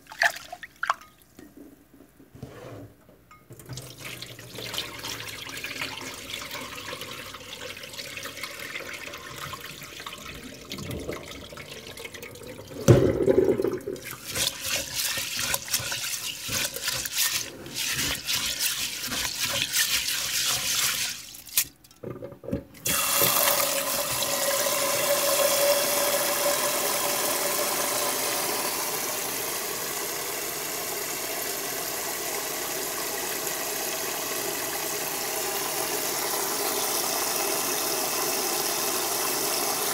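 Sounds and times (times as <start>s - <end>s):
tap water running: 3.5s - 22.1s, 22.8s - 39.9s.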